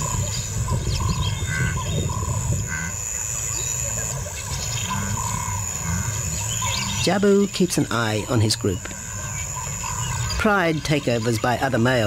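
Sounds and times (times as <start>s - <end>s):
low rumbling noise: 0.0s - 10.5s
high insect whine: 0.0s - 12.0s.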